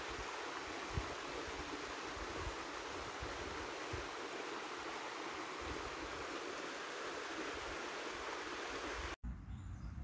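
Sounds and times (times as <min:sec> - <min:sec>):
stream rushing over rocks: 0:00.0 - 0:09.2.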